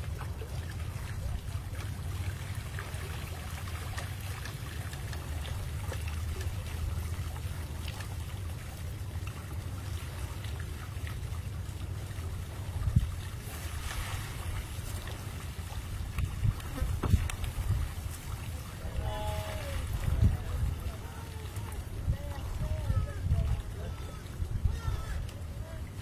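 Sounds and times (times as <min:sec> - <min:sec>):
trickling water: 0:00.0 - 0:26.0.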